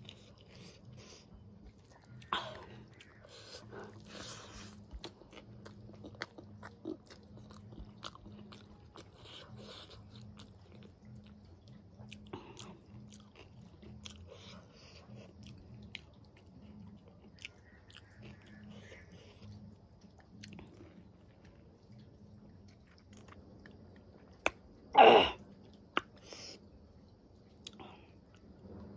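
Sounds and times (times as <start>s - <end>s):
mouth chewing with wet clicks: 0.0s - 28.7s.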